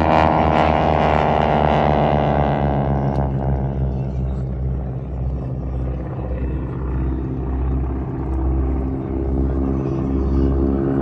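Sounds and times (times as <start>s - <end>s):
airplane engines droning: 0.0s - 11.0s.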